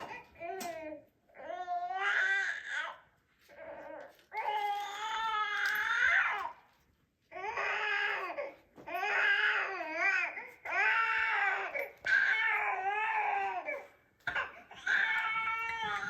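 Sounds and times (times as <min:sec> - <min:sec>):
baby crying: 0:00.0 - 0:06.6, 0:07.3 - 0:16.0.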